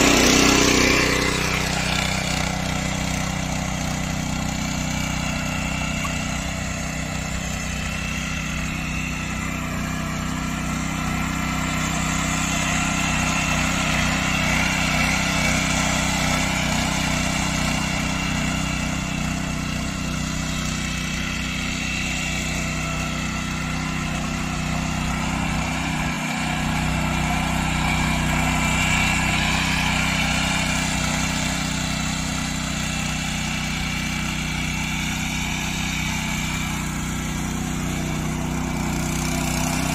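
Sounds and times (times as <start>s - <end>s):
rotary tines tilling soil: 0.0s - 39.9s
small engine running under load: 0.0s - 39.9s.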